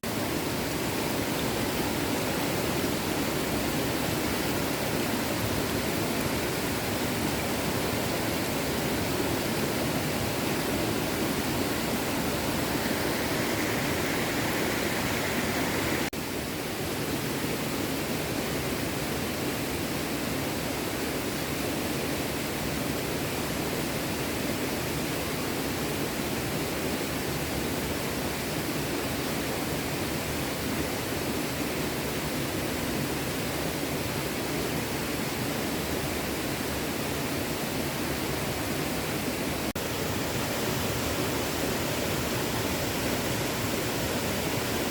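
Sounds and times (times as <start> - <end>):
small stream flowing: 0.0 - 44.9.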